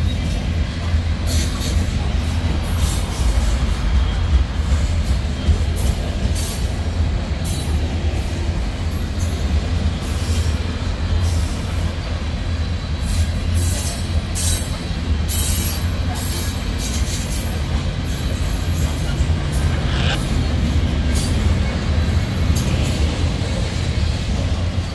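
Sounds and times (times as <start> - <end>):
freight train rumbling past: 0.0 - 24.9
wheels squealing on rails: 0.0 - 24.9.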